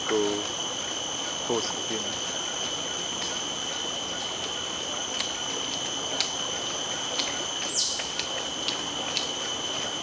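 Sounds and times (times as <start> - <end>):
insect chorus drone: 0.0 - 10.0.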